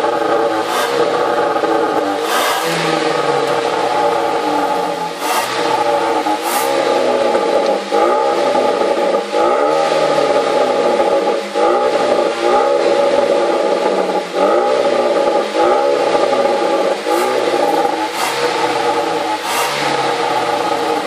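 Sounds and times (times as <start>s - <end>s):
car engine revving in blips: 0.0s - 21.0s
exhaust cracks: 0.0s - 21.0s.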